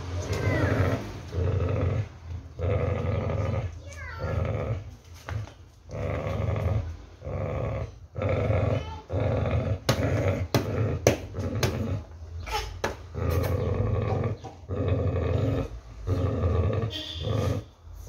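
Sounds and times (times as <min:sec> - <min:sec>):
dog growling: 0:00.2 - 0:05.0, 0:05.9 - 0:12.2, 0:13.1 - 0:17.8.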